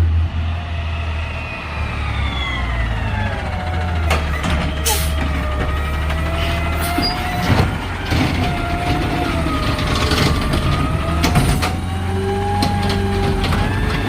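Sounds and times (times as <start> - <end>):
garbage truck engine drone: 0.0 - 14.0.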